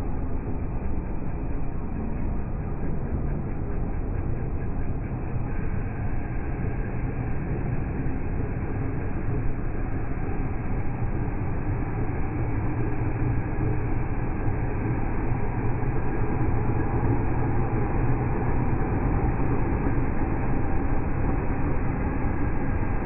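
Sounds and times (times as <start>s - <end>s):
slowed bus engine rumble: 0.0s - 23.0s.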